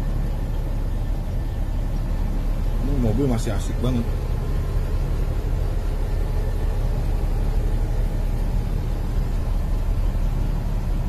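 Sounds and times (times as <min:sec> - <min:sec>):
engine rumbling from inside cabin: 0:00.0 - 0:11.0.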